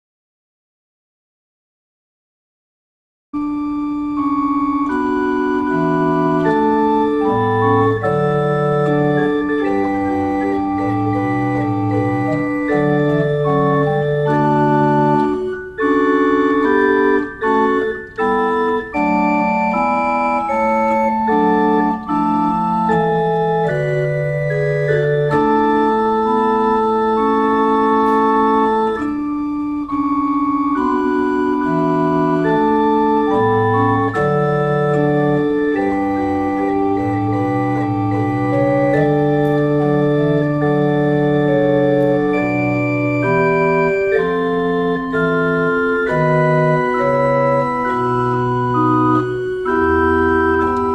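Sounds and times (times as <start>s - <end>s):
pipe organ playing chords: 3.4s - 50.9s.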